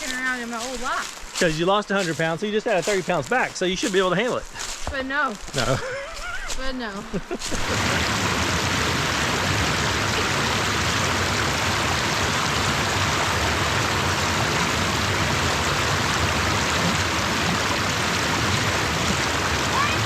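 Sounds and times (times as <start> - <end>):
rush of running water: 0.0 - 4.8, 7.4 - 20.0.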